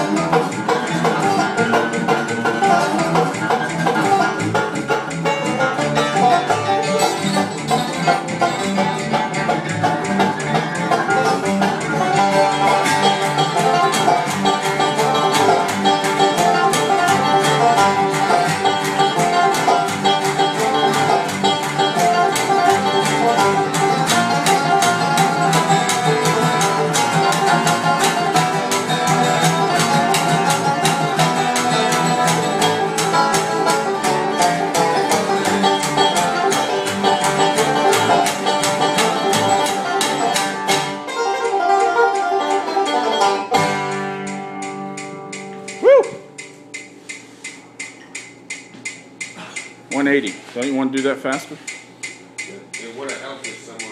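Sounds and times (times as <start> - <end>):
plucked upright bass: 0.0 - 47.1
banjo picking: 0.0 - 48.5
acoustic guitar picking: 0.0 - 53.9.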